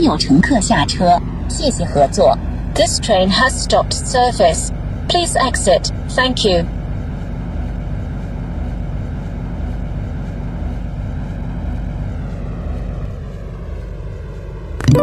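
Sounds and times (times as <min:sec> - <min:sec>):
faint falling whine: 0:00.0 - 0:15.0
train interior hum and rumble: 0:00.0 - 0:15.0.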